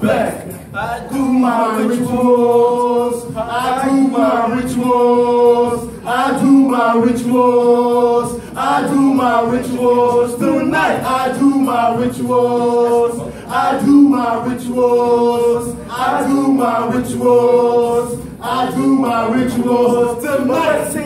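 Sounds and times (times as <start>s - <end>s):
men singing a cappella: 0.0s - 21.0s.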